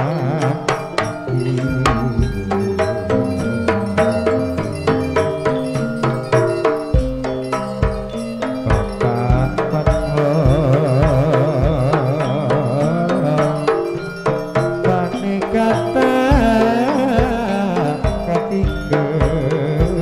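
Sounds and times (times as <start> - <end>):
hand drum strokes: 0.0 - 20.0
metallophones ringing: 0.0 - 20.0
ornamented melody line: 0.0 - 20.0.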